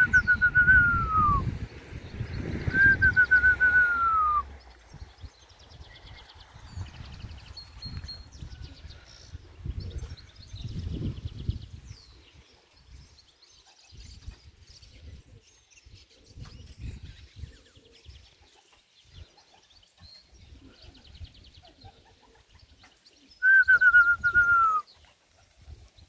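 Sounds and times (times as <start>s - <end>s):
wind buffeting microphone: 0.0s - 26.0s
small birds trilling: 4.5s - 26.0s.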